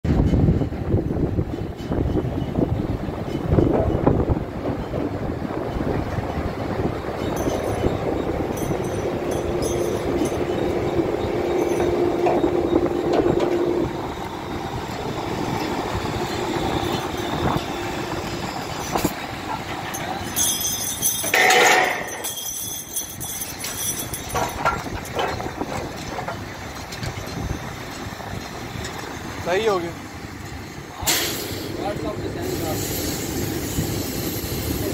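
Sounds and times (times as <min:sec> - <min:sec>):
drilling rig machinery hum: 0:00.1 - 0:34.9.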